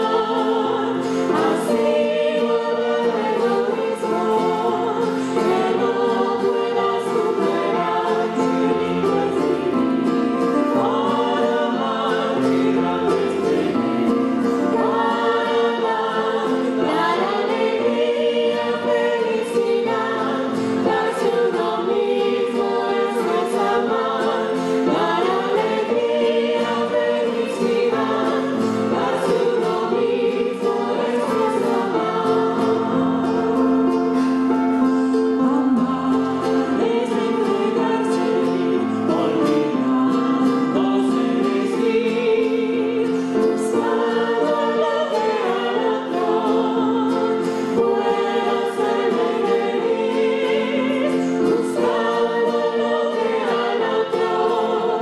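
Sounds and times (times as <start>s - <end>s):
choir singing held notes: 0.0s - 55.0s.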